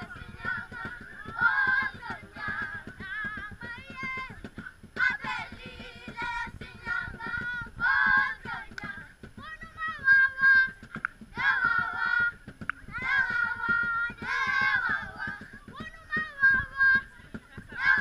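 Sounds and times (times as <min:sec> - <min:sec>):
girls singing unaccompanied: 0:00.0 - 0:18.0.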